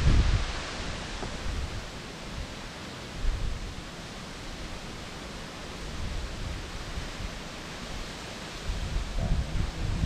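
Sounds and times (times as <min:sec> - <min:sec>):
wind noise on microphone: 0:00.0 - 0:05.1, 0:05.7 - 0:10.0.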